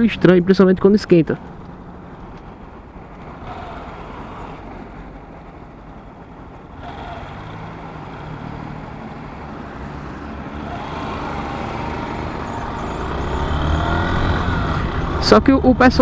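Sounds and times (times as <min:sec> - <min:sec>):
road noise: 0:00.0 - 0:16.0
vehicle engine running: 0:01.3 - 0:16.0.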